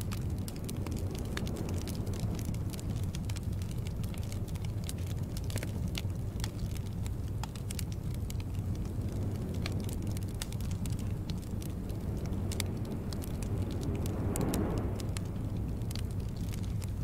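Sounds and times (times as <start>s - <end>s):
rush of flame: 0.0s - 17.0s
wood fire crackling: 0.0s - 17.0s.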